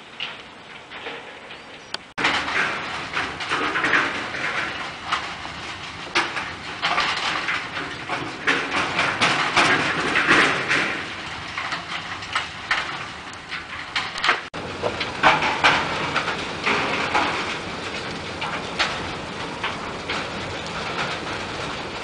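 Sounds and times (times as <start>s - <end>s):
coal clattering down steel chute: 0.1s - 22.0s.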